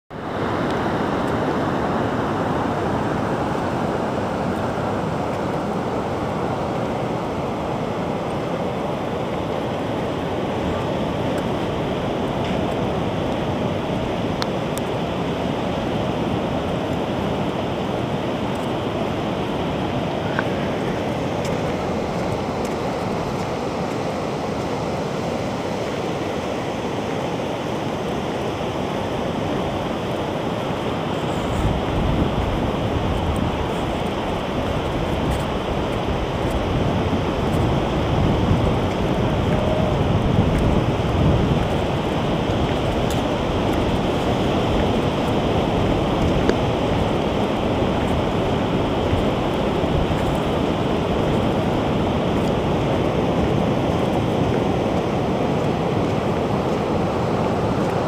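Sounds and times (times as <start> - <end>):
ocean surf on beach: 0.1 - 58.0
wind on microphone: 0.1 - 58.0.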